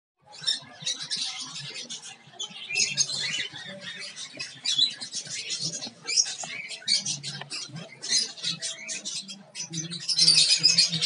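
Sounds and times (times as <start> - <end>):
cockatiels chirping and squawking: 0.2 - 11.0.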